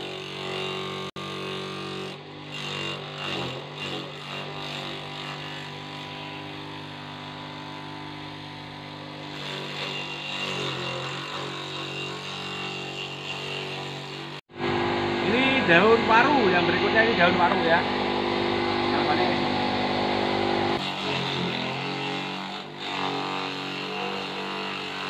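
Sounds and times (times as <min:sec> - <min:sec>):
electric motor humming: 0:00.0 - 0:25.0.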